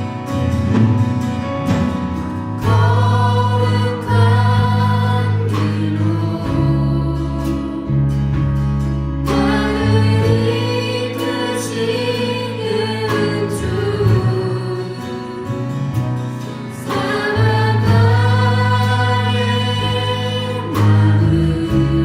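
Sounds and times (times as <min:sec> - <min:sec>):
steady bass line: 0:00.0 - 0:22.0
sustained keyboard chords: 0:00.0 - 0:22.0
group vocals singing: 0:02.6 - 0:22.0.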